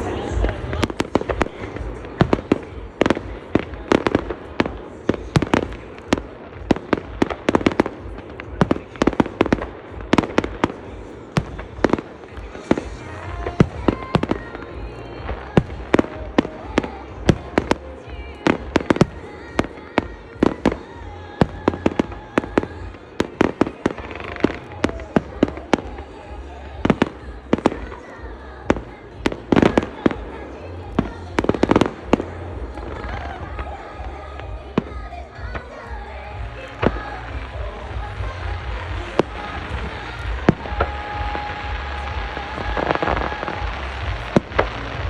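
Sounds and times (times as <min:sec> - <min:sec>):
fireworks bangs: 0:00.0 - 0:45.0.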